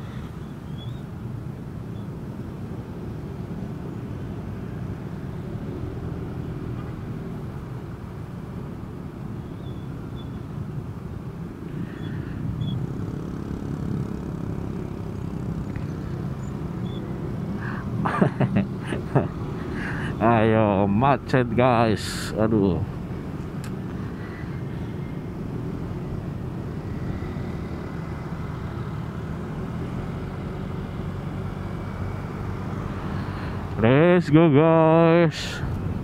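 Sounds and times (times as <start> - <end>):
motorcycle engine rumble: 0.0 - 36.0
road noise: 0.0 - 36.0.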